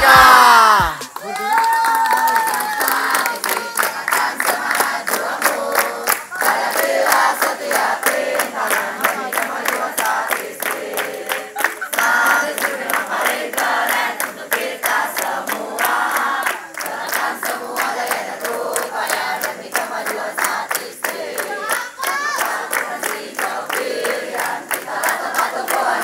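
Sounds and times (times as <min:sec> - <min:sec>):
group singing and chanting: 0:00.0 - 0:01.2, 0:02.4 - 0:26.0
rhythmic clapping: 0:00.0 - 0:26.0.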